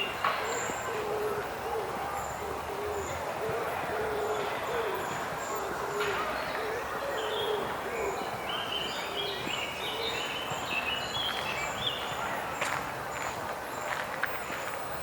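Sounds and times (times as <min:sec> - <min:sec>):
park background noise: 0:00.0 - 0:15.0
songbirds singing: 0:00.0 - 0:15.0.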